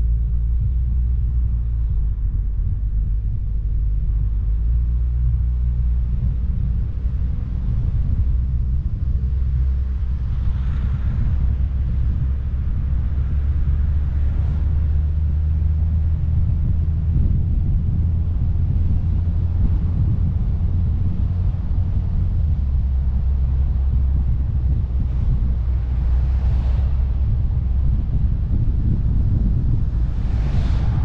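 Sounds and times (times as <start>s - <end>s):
vehicle engine and road noise: 0.0s - 31.0s.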